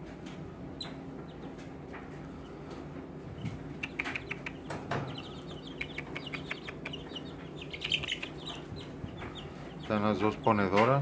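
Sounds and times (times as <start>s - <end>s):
chicks peeping and chirping: 0.3s - 11.0s.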